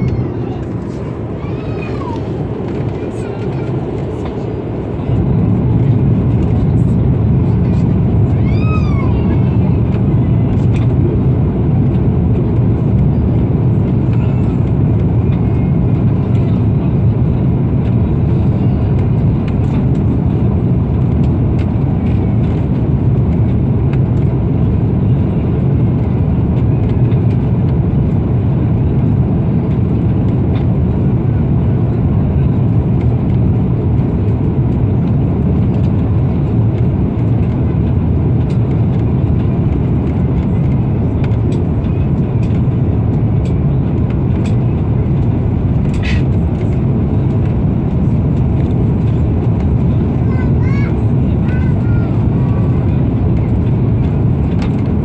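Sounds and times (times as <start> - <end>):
airplane cabin roar: 0.0 - 55.0.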